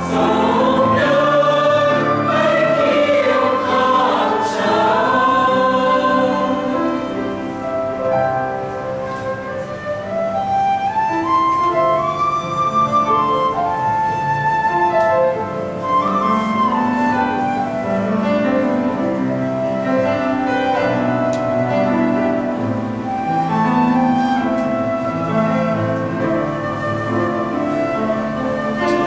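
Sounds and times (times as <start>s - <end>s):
flute melody: 0.0s - 29.0s.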